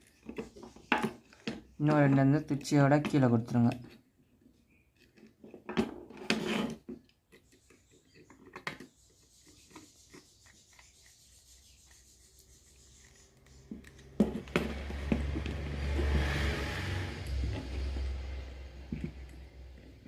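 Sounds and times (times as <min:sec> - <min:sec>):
hands rubbing and scraping wires: 0:00.0 - 0:04.0, 0:04.9 - 0:20.0.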